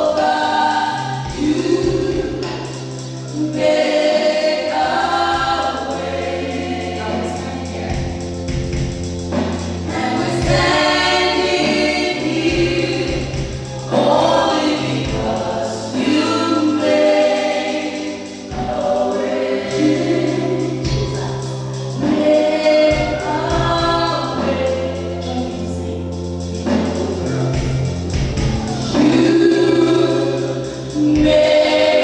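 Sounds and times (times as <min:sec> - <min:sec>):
choir singing gospel: 0:00.0 - 0:32.0
low accompanying notes: 0:00.0 - 0:32.0.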